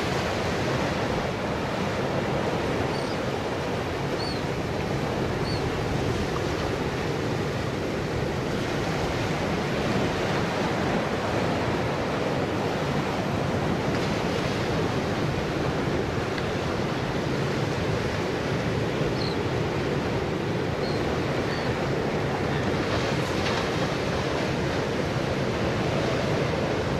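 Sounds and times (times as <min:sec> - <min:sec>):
ocean surf breaking over rocks: 0:00.0 - 0:26.9.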